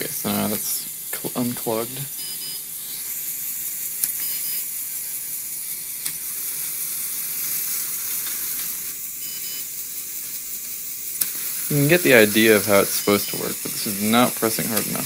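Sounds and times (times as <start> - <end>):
toy motors and gears whirring: 0.0 - 15.0.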